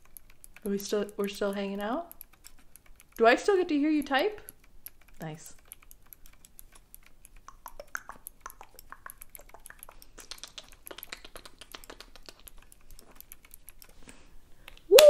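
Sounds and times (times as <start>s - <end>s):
keyboard key clicks: 0.0s - 14.0s.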